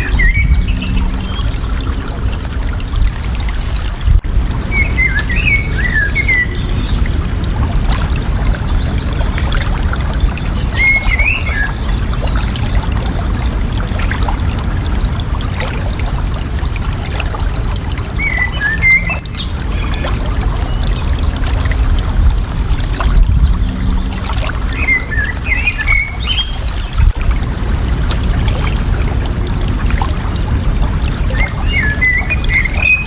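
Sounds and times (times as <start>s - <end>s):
rushing trickling water: 0.0s - 33.0s.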